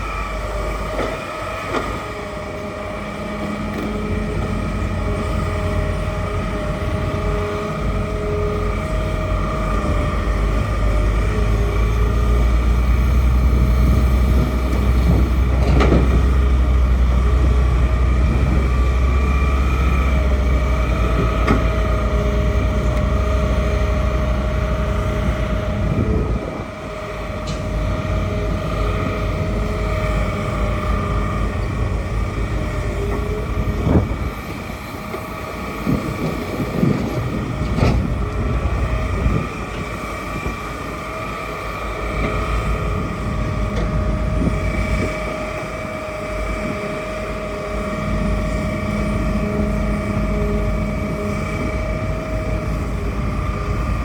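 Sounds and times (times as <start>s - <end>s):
excavator engine and hydraulics: 0.0s - 54.0s.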